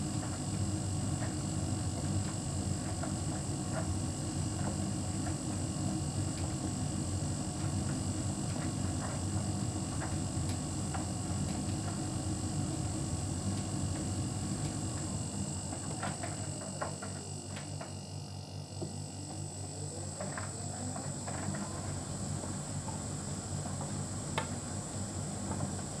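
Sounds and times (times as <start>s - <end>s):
tumble dryer humming: 0.0s - 26.0s.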